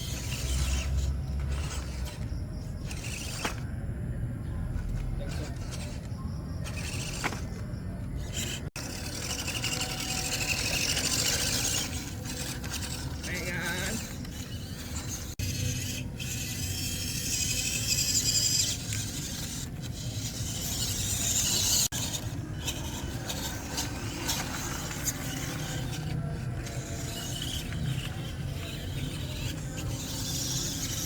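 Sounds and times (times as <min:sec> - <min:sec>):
tyres scraping over dirt: 0:00.0 - 0:31.0
electric motor whining: 0:04.9 - 0:31.0.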